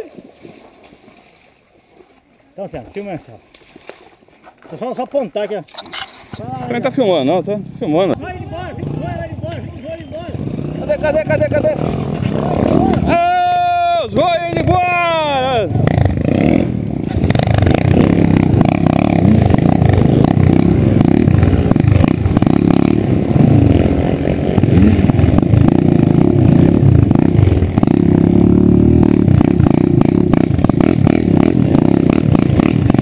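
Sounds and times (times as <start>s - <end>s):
dirt bike engine revving: 6.4s - 33.0s.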